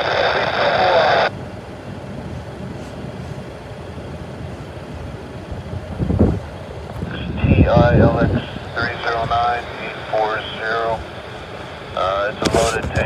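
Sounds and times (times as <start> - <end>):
distant freight train rumble: 0.0 - 13.0.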